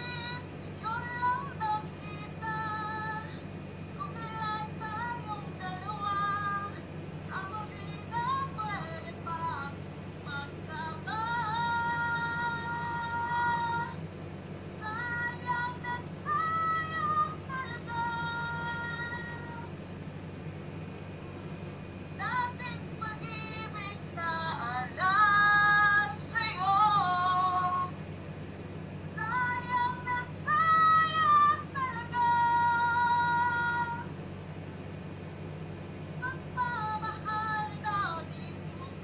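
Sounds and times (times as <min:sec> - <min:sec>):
woman singing a cappella: 0:00.0 - 0:19.8, 0:22.1 - 0:28.0, 0:29.0 - 0:34.2, 0:36.2 - 0:39.0
steady low hum: 0:00.0 - 0:39.0.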